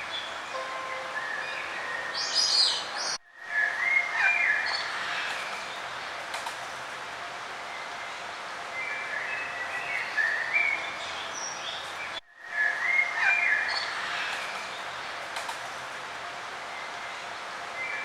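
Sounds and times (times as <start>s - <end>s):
songbirds chirping: 0.0s - 6.3s, 7.2s - 18.0s
steady outdoor hiss: 0.0s - 18.0s.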